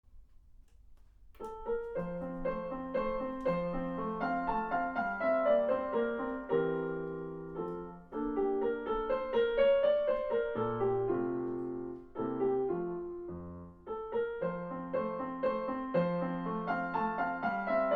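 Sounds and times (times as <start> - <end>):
digital piano melody: 1.3 - 17.9.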